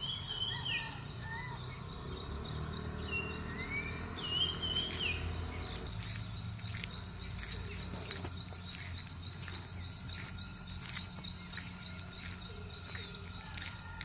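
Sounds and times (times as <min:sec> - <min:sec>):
bird chirps: 0:00.0 - 0:14.0
insects trilling: 0:00.0 - 0:14.0.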